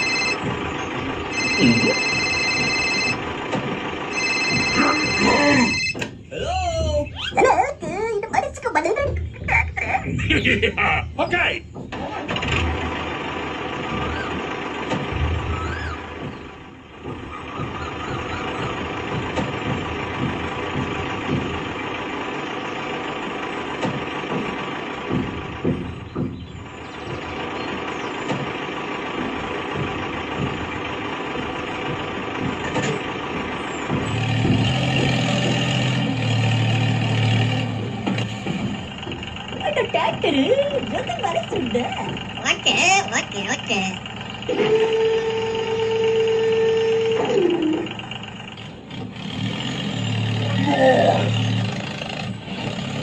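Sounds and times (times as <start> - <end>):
deeper hum: 0.0 - 53.0
tractor motor whining: 0.0 - 53.0.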